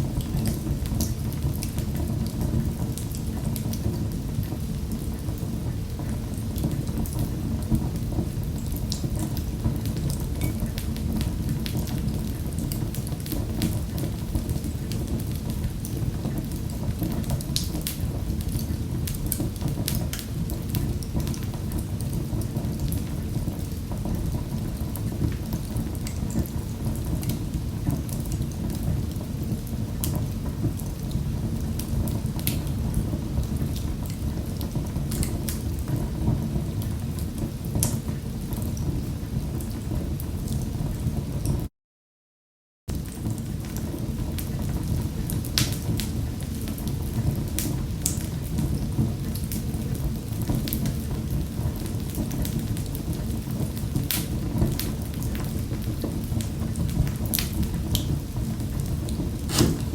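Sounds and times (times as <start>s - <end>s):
wood fire crackling: 0.0s - 40.6s, 42.9s - 59.9s.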